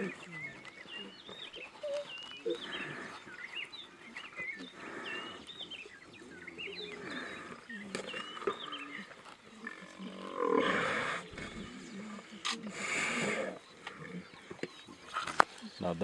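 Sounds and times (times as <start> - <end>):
lions growling and snarling: 0.0 - 15.8.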